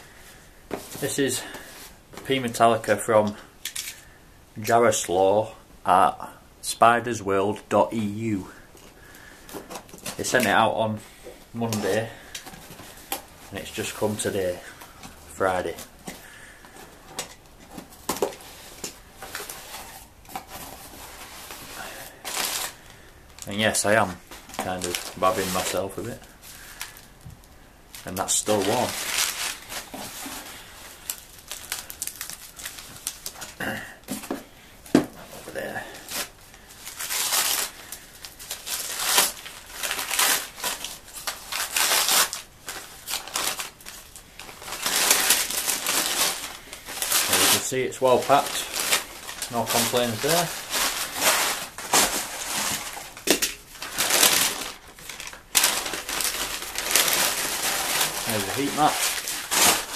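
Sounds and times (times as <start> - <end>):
newspaper crinkling and rustling: 0.1 - 4.2, 11.6 - 27.3, 27.9 - 59.9.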